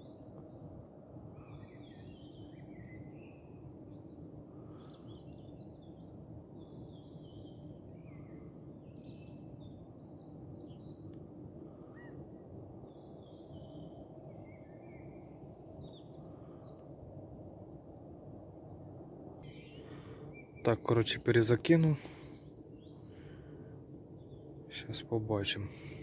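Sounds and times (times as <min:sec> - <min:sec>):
outdoor background noise: 0:00.0 - 0:26.0
songbirds chirping: 0:00.0 - 0:26.0.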